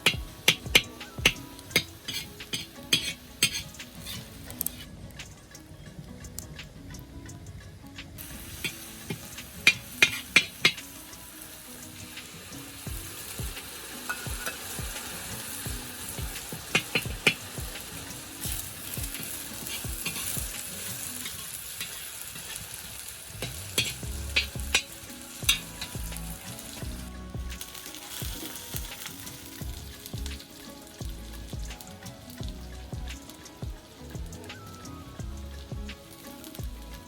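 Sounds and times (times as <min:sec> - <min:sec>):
food sizzling in a pan: 0:00.0 - 0:07.0, 0:07.6 - 0:37.0.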